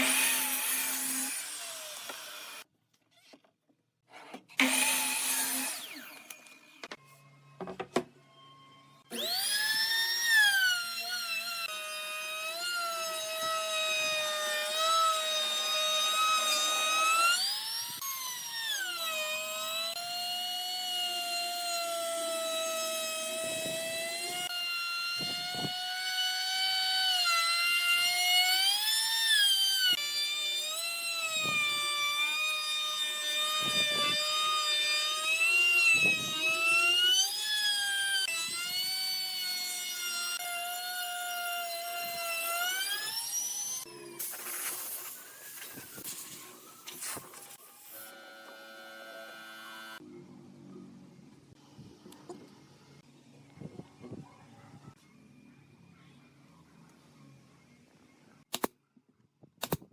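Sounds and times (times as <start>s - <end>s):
power tool whining cutting wood: 0.0s - 2.7s, 4.6s - 50.0s.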